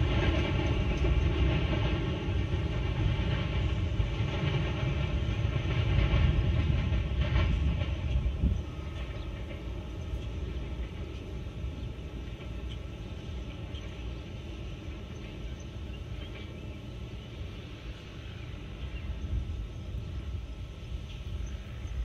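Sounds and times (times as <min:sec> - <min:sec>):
distant freight train rumble: 0:00.0 - 0:22.0.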